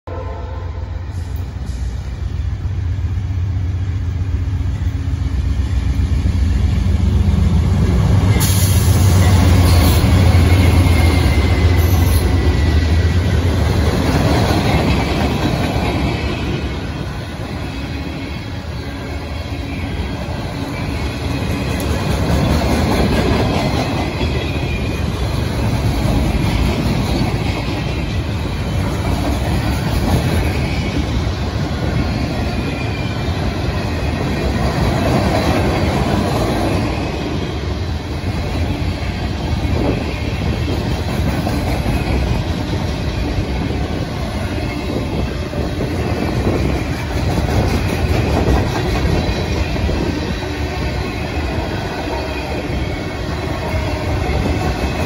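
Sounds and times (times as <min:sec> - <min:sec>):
train wheels clattering on rails: 0:07.0 - 0:18.4, 0:19.0 - 0:55.0.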